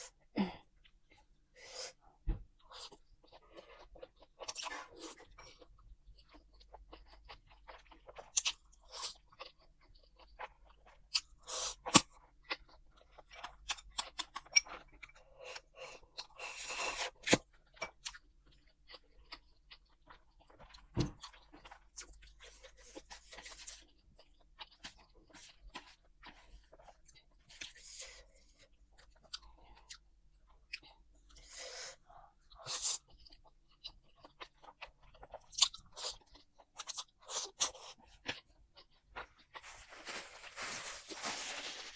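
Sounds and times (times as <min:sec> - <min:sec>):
chewing and crunching food: 0:00.2 - 0:41.9.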